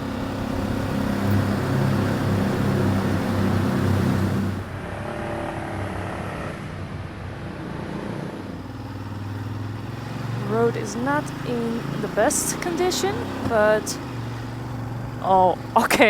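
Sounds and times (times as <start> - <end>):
motorcycle engine under throttle: 0.0 - 16.0.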